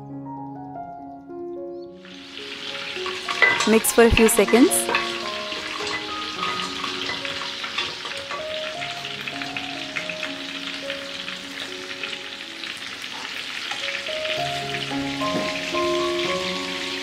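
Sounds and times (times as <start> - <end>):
soft melodic background tune: 0.0 - 17.0
oil sizzling with crackles: 2.0 - 17.0.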